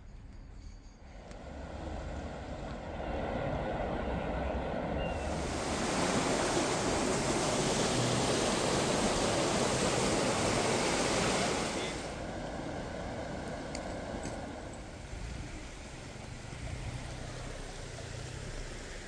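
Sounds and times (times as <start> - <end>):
floodwater rushing: 1.2 - 19.0.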